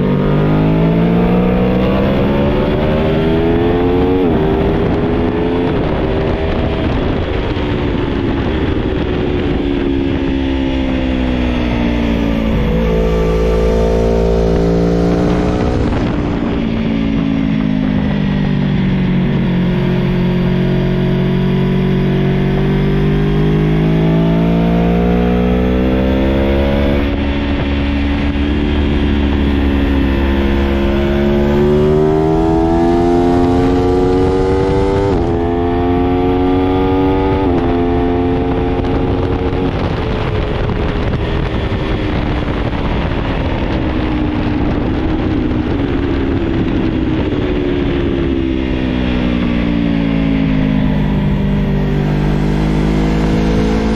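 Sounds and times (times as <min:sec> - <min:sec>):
motorcycle engine revving: 0:00.0 - 0:53.9
wind noise: 0:00.0 - 0:53.9.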